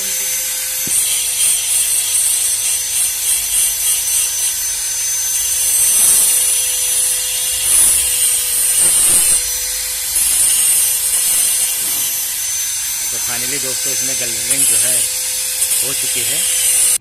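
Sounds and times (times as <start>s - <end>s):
angle grinder motor whining: 0.0s - 17.0s
grinding disc hiss on steel: 0.0s - 17.0s.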